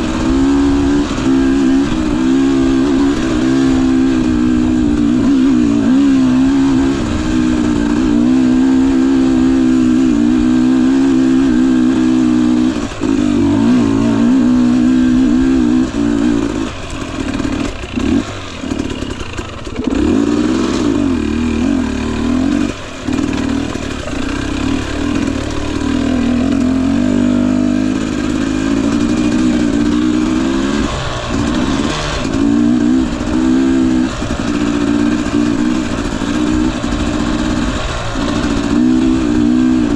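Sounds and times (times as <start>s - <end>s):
dirt bike two-stroke engine: 0.0s - 39.9s.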